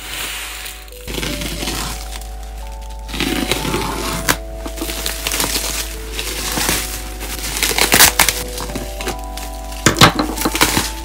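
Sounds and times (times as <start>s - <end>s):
bubble wrap crinkling: 0.0s - 11.0s
soft background music: 0.0s - 11.0s.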